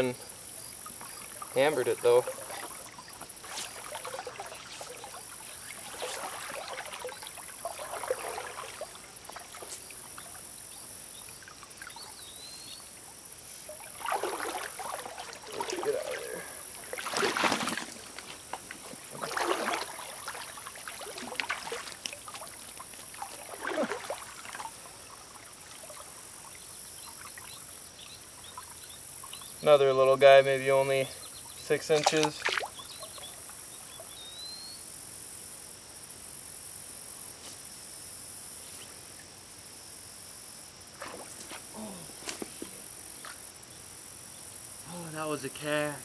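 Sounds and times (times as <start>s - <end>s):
water splashing in a creek: 0.0s - 34.5s, 39.0s - 43.5s
insects buzzing: 0.0s - 46.0s.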